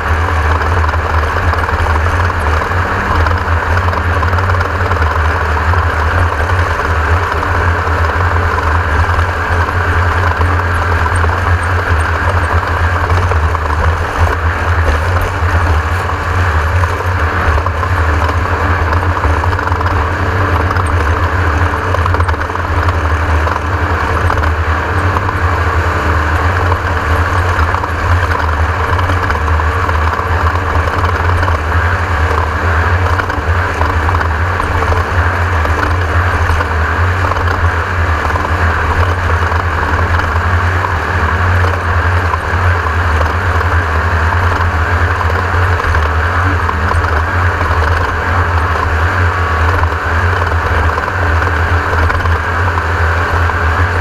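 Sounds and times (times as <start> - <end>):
race car engine droning: 0.0 - 54.0.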